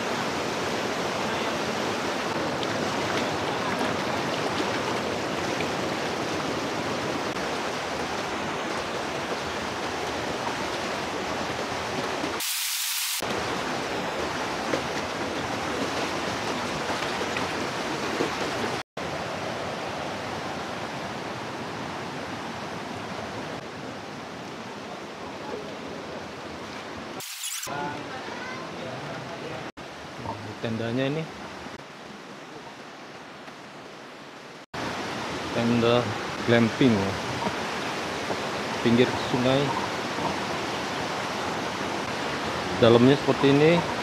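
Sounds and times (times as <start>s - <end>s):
flowing water rushing: 0.0s - 44.0s.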